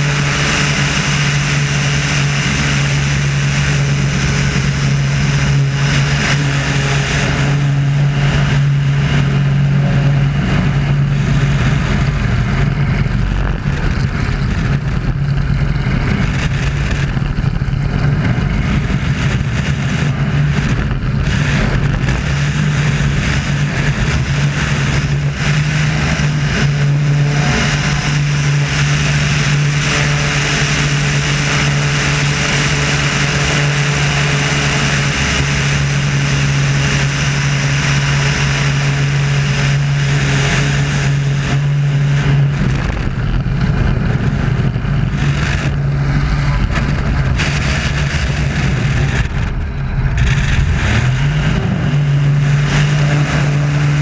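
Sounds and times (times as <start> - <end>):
airplane engine and propeller: 0.0 - 54.0
wind rush: 0.0 - 54.0.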